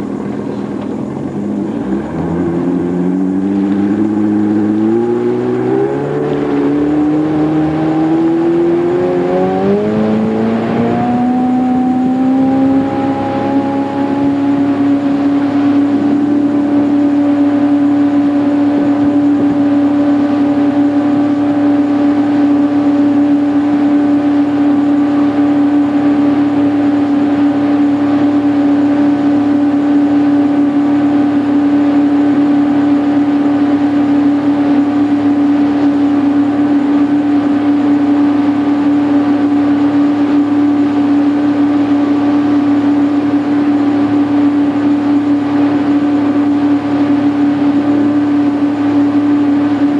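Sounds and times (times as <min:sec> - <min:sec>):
motorboat engine running: 0:00.0 - 0:49.9.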